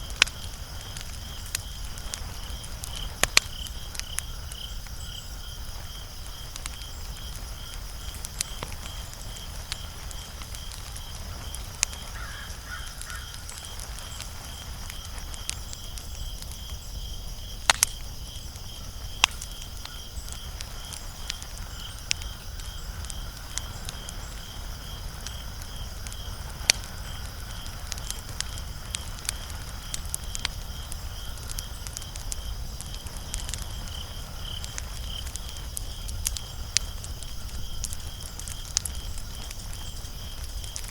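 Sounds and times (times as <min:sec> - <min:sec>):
cricket chirping: 0:00.0 - 0:40.9
wood fire crackling: 0:00.0 - 0:40.9.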